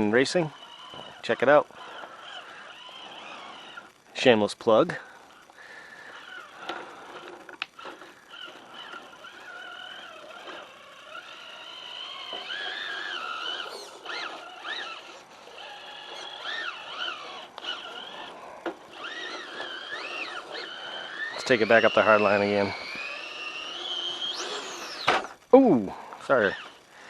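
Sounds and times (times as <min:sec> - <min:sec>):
electric motor whining: 0:00.0 - 0:04.2, 0:05.0 - 0:27.0.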